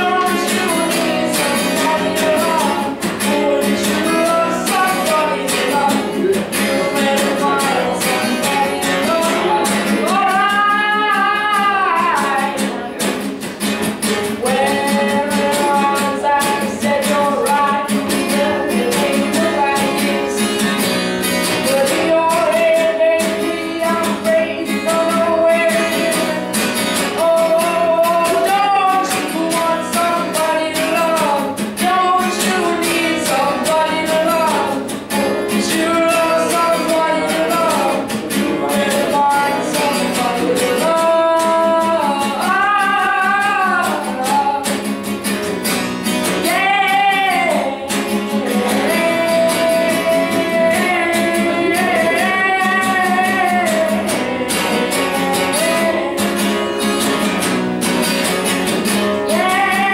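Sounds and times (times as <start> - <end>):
acoustic guitar strumming: 0.0 - 59.9
person singing: 0.0 - 59.9.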